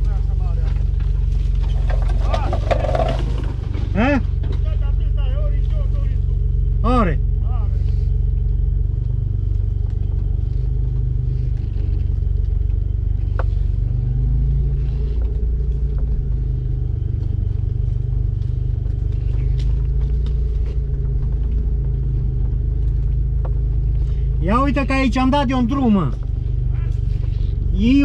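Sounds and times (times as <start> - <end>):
vehicle knocks and rattles: 0.0 - 6.5, 8.4 - 27.7
engine running: 0.0 - 28.0.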